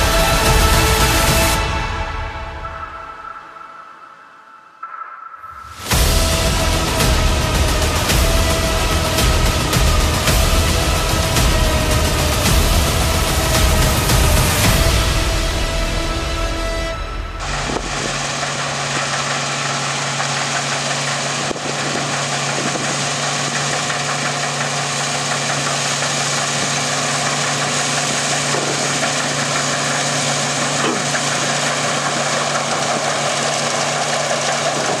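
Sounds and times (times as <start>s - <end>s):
combine harvester running: 0.0s - 3.8s, 5.7s - 35.0s.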